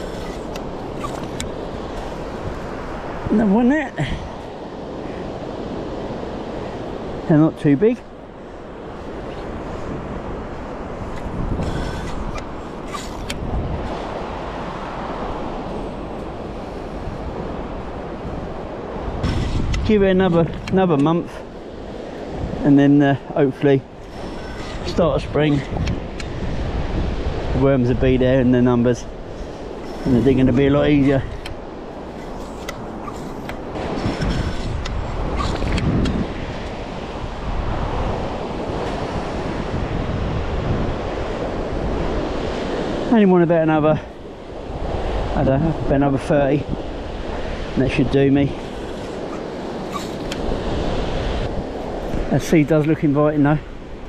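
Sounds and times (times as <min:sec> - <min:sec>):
surf washing on sand: 0:00.0 - 0:54.0
wind rumble on microphone: 0:00.0 - 0:54.0.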